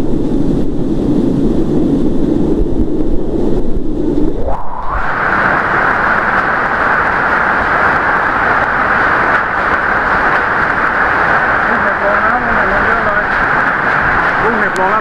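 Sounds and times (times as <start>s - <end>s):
storm rain and wind: 0.0s - 15.0s.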